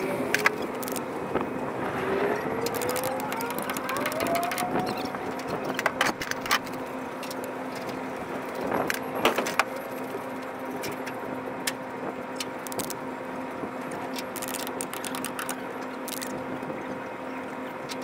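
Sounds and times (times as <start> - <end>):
rushing background noise: 0.0 - 17.4
steady machine hum: 0.0 - 17.9.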